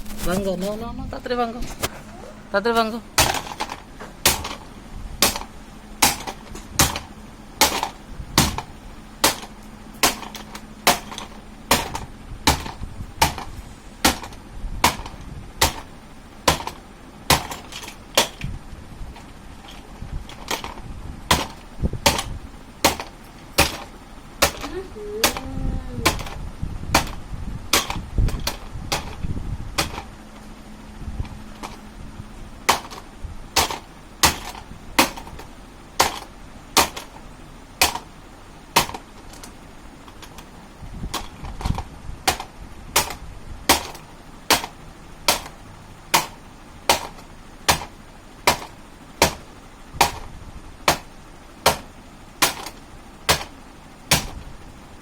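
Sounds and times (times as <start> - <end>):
sharp cracking impacts: 3.1 - 30.4, 31.4 - 55.0.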